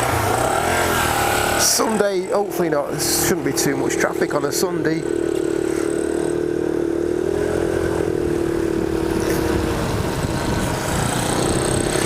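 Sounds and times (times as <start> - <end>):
motorbike engine cruising: 0.0 - 12.0
wind and road noise: 0.0 - 12.0.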